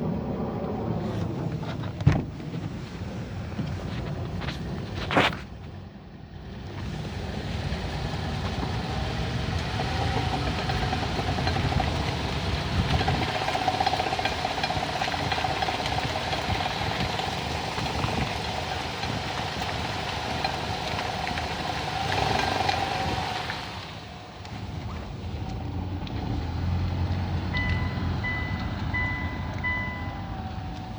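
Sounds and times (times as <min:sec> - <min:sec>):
rapid engine rattling: 0:00.0 - 0:05.8, 0:06.6 - 0:30.9
car engine hum: 0:00.0 - 0:30.9.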